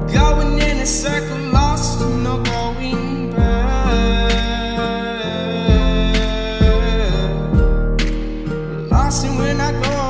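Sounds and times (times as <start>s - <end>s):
calm soul music with singing: 0.0s - 10.0s.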